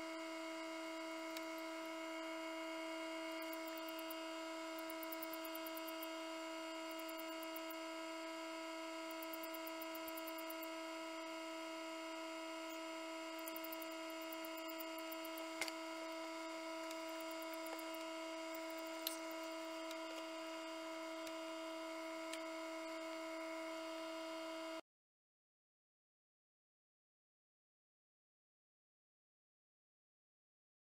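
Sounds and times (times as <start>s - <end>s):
incubator fan hum: 0.0s - 24.8s.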